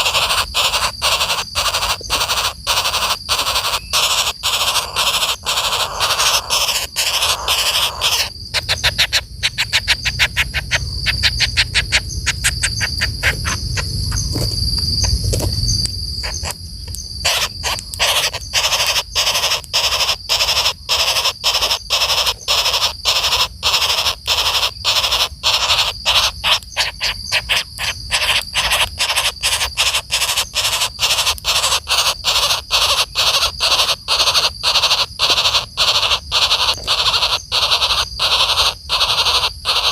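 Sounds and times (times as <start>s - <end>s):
woodpecker calling rapid harsh notes: 0.0s - 15.2s, 16.2s - 16.6s, 17.2s - 39.9s.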